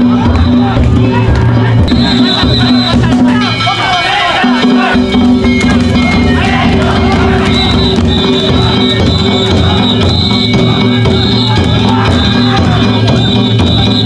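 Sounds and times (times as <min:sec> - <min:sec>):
loud drum-driven music: 0:00.0 - 0:14.0.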